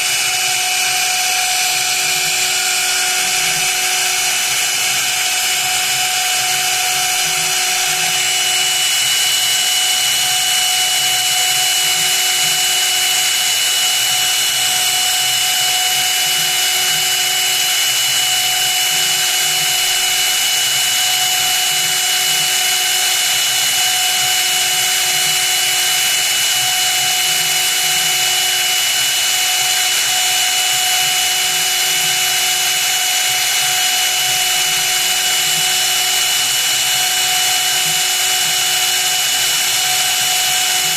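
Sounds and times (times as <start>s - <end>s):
cnc spindle whining: 0.0s - 40.9s.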